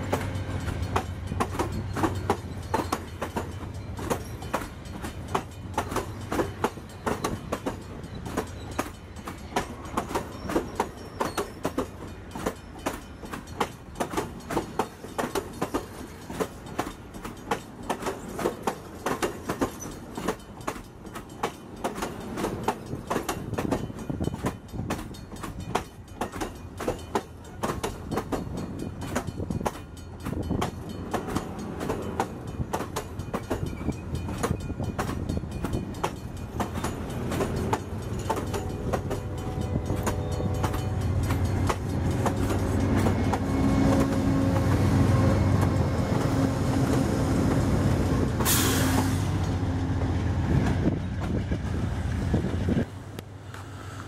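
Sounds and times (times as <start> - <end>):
diesel locomotive engine drone: 0.0 - 54.0
train wheels clicking over rail joints: 0.0 - 54.0.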